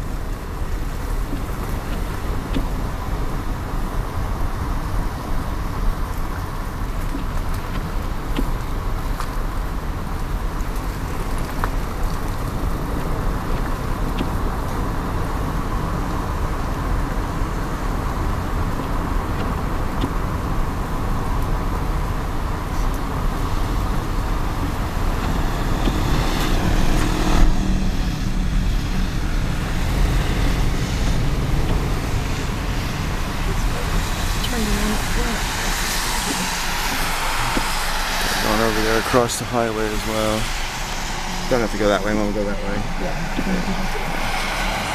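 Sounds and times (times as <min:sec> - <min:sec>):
car interior road noise: 0:00.0 - 0:44.9
tyres on wet road: 0:00.0 - 0:44.9.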